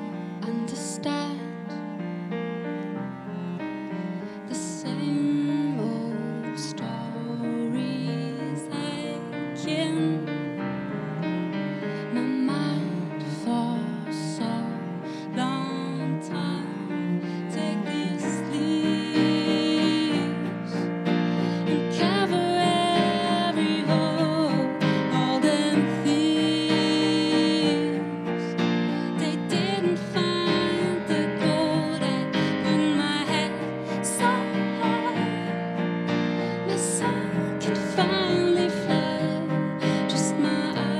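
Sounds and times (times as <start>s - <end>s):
woman singing: 0.0s - 2.0s, 4.1s - 40.9s
bowed cello: 0.0s - 40.9s
piano chords: 0.0s - 40.9s.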